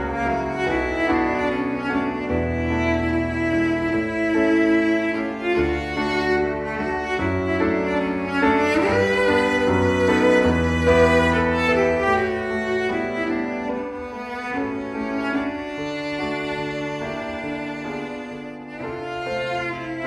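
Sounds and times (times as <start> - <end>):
bowed strings playing: 0.0 - 20.0.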